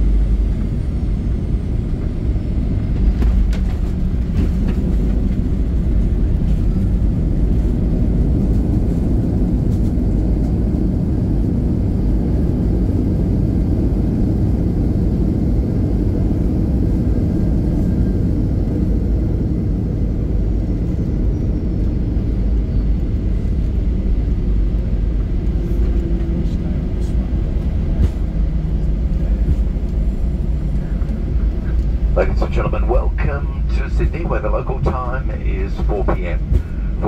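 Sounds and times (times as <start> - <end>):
airliner cabin rumble while taxiing: 0.0 - 37.0.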